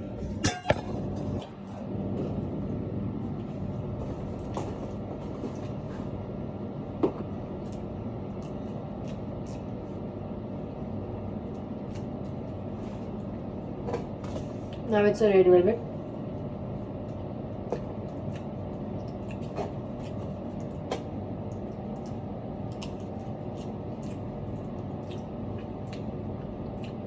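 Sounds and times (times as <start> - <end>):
low rumble with faint hum: 0.0 - 27.0.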